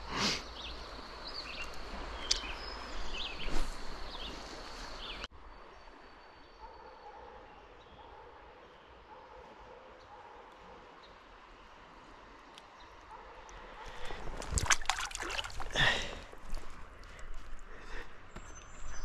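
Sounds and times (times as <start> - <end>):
birds chirping: 0.0 - 11.8, 15.2 - 19.0.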